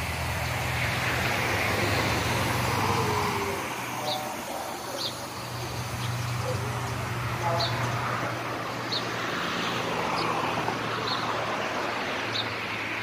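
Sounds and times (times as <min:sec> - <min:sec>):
road traffic: 0:00.0 - 0:13.0
vehicle passing: 0:00.0 - 0:13.0.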